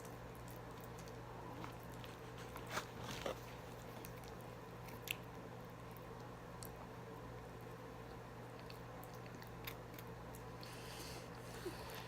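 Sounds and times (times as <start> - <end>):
quiet chewing: 0.0 - 6.9, 7.5 - 12.0
low electrical hum: 0.0 - 12.0.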